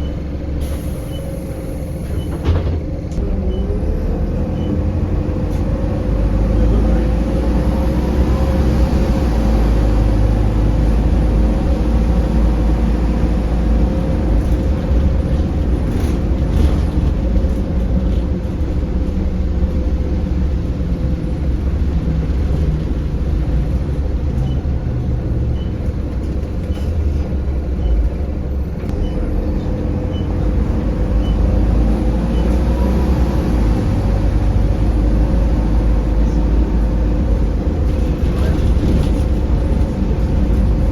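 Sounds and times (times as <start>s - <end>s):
bus engine drone: 0.0s - 40.9s
road noise: 0.0s - 40.9s.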